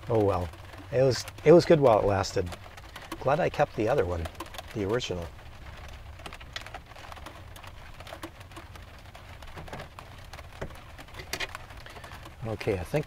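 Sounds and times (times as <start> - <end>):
rain on a metal roof: 0.0 - 13.0.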